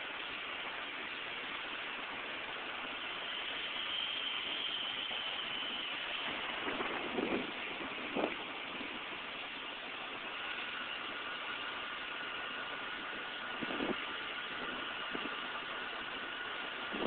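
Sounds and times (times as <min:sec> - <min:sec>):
faint engine running: 0:00.0 - 0:17.0.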